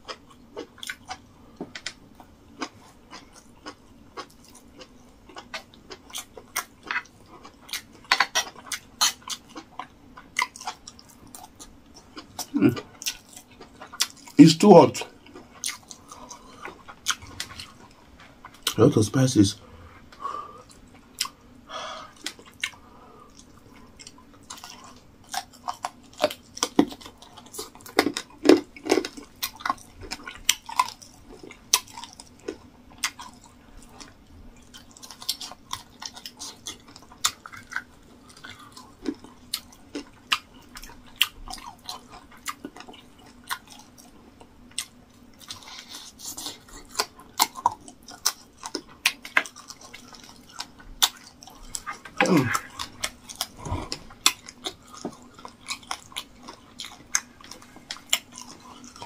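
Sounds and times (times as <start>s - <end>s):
close chewing with mouth clicks: 0.0s - 19.0s, 20.0s - 59.0s.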